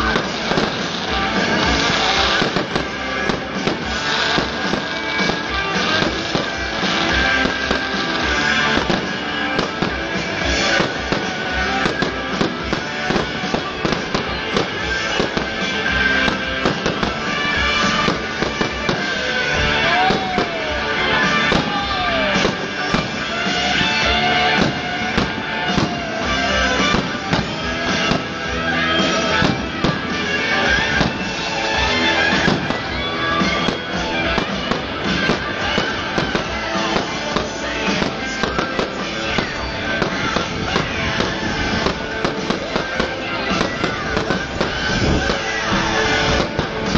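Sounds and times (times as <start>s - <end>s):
fireworks bangs: 0.0s - 46.9s
loud music: 0.0s - 46.9s.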